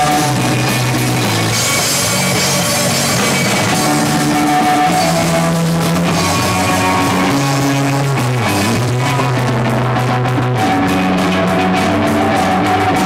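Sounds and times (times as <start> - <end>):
drum kit with cymbals: 0.0 - 13.0
electric guitar chords: 0.0 - 13.0.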